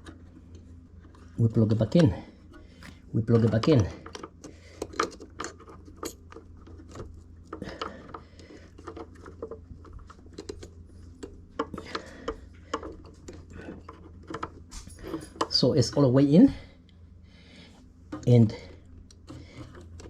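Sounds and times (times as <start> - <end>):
small parts clicking and tapping: 0.0 - 16.1, 18.1 - 20.0
steady low hum: 0.0 - 20.0.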